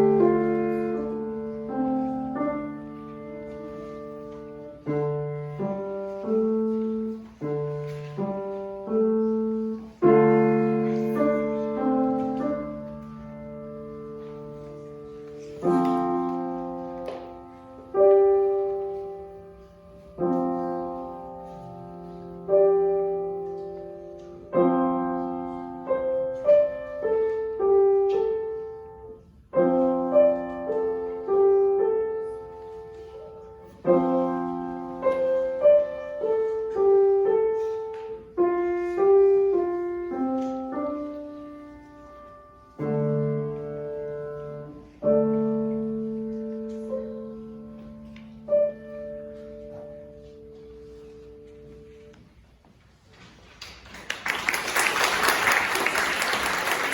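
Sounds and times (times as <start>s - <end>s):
slow solo piano: 0.0s - 56.9s.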